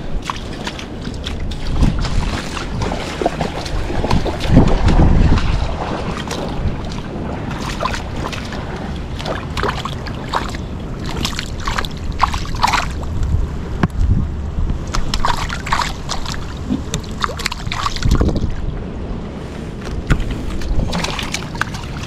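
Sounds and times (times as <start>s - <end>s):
wind rushing on microphone: 0.0s - 22.0s.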